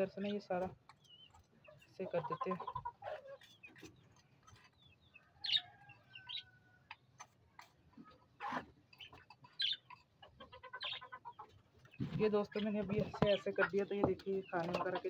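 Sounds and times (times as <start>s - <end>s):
caged birds chirping: 0.0s - 15.0s.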